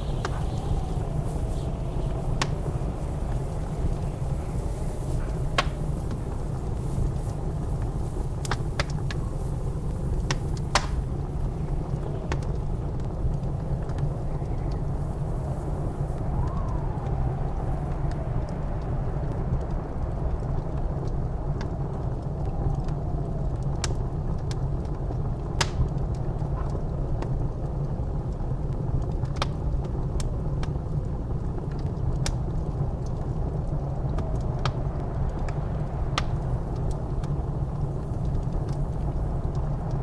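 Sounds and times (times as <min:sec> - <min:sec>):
howling blizzard wind: 0:00.0 - 0:40.0
wood fire crackling: 0:00.0 - 0:40.0.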